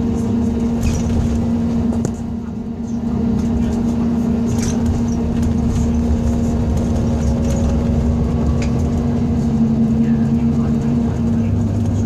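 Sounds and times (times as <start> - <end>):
diesel engine hum: 0.0 - 12.0
low road rumble: 0.0 - 12.0.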